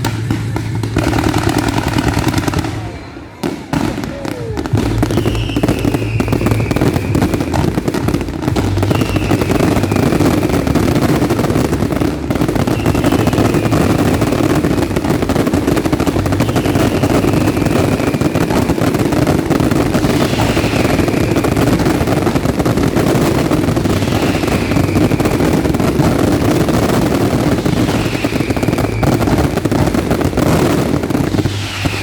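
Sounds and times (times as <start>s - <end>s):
falling firework whistle: 0.0s - 32.0s
fireworks bangs and crackling: 0.0s - 32.0s.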